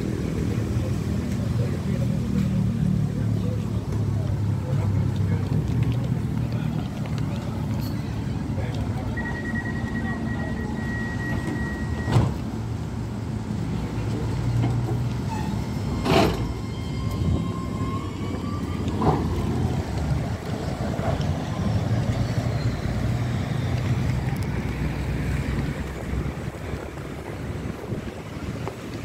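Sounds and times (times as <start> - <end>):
street noise: 0.0 - 29.0
tram humming: 0.0 - 29.0
wind: 0.0 - 29.0.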